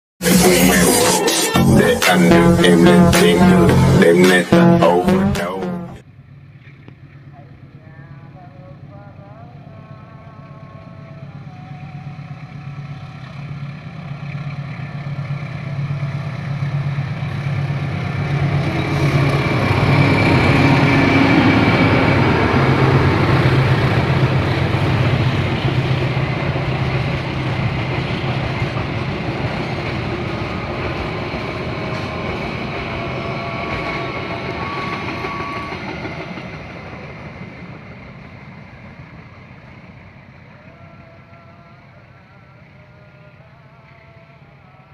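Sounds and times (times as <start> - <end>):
locomotive engine throb: 0.3 - 6.0, 8.7 - 44.9.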